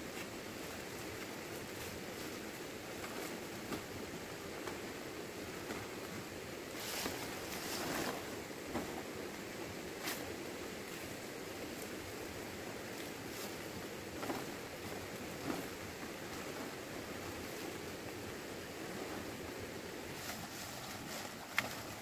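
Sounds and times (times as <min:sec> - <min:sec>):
palm leaves rustling: 0:00.0 - 0:22.0
steady outdoor hiss: 0:00.0 - 0:22.0.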